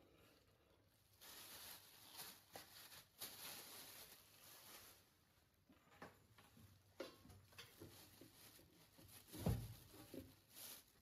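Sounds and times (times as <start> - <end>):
plastic bag crinkling: 0.9 - 5.6, 6.8 - 11.0.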